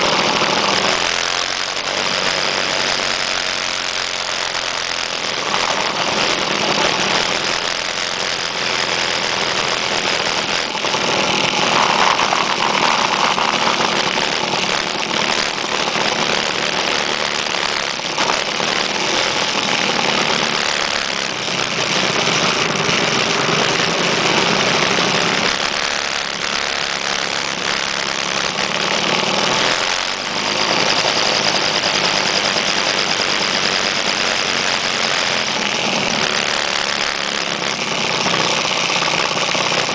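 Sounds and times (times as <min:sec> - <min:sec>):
rush of noise: 0:00.0 - 0:39.9
scooter engines running: 0:00.0 - 0:39.9.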